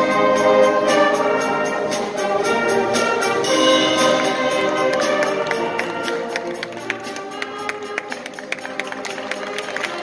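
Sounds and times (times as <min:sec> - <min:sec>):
band playing sustained chords: 0:00.0 - 0:10.0.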